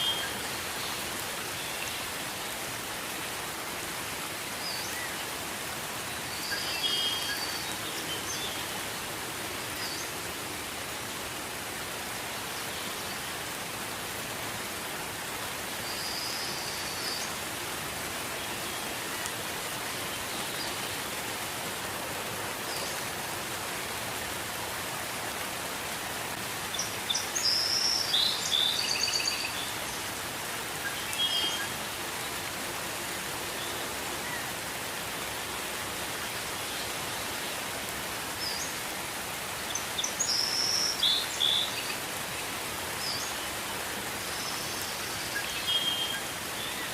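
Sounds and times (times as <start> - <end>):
gentle rain falling: 0.0 - 46.9.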